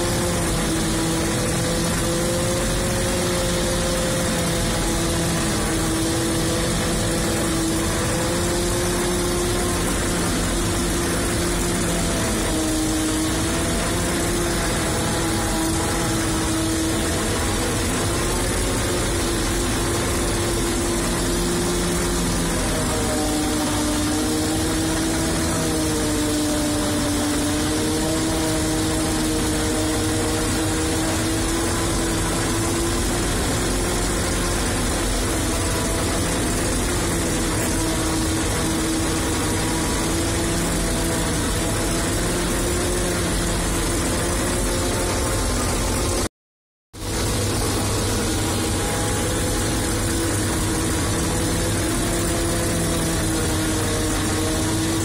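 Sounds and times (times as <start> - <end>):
harvester machine drone from cab: 0.0 - 46.3, 46.9 - 55.0.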